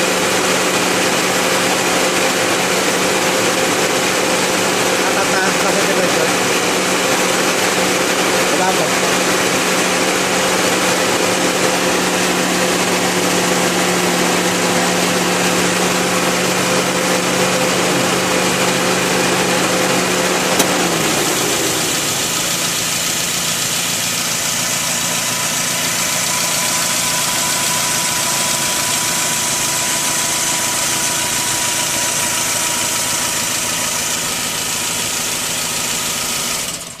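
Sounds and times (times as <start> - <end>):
car engine idling hum: 0.0 - 37.0.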